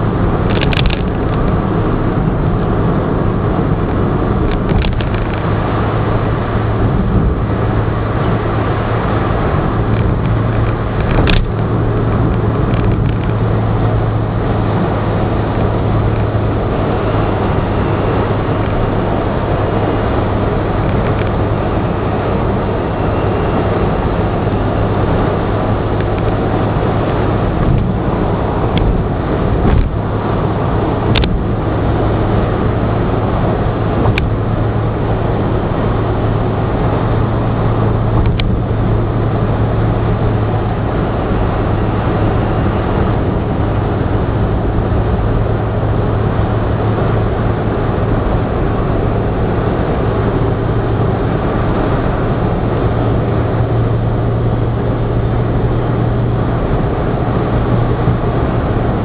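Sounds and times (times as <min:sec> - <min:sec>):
car engine drone: 0:00.0 - 0:59.0
tyre and wind noise: 0:00.0 - 0:59.0.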